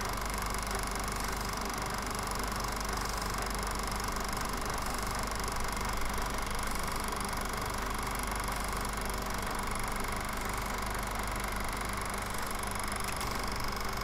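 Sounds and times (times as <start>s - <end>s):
film projector humming and whirring: 0.0s - 14.0s.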